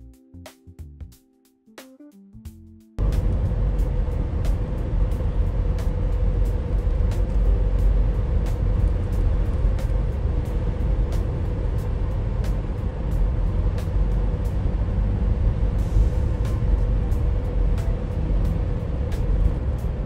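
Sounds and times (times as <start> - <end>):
background music with ticking beat: 0.0 - 20.0
road rumble inside car: 3.0 - 20.0.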